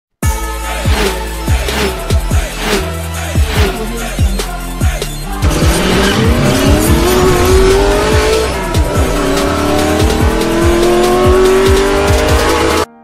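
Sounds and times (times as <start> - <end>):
electronic music with drum beat: 0.2 - 12.9
race car engine revving: 0.9 - 12.9.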